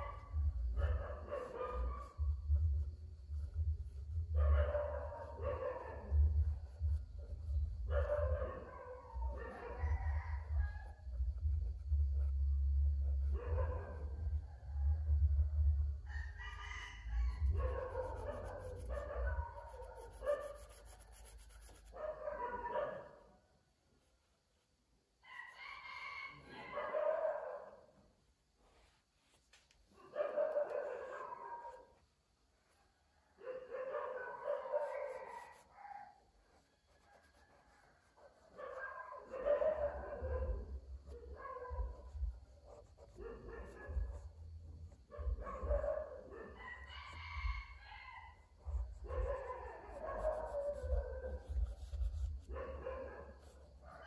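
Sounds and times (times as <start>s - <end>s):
dog barking: 0.0s - 2.8s, 3.5s - 23.5s, 25.3s - 28.0s, 29.9s - 32.0s, 33.2s - 54.0s.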